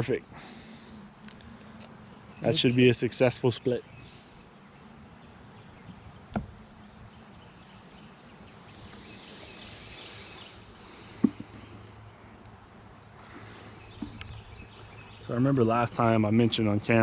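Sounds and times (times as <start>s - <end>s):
high insect trill: 0.0s - 17.0s.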